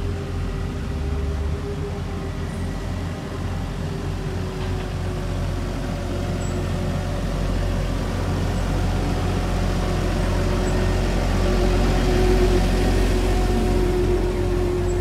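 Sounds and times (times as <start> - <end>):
road roller diesel engine: 0.0 - 15.0.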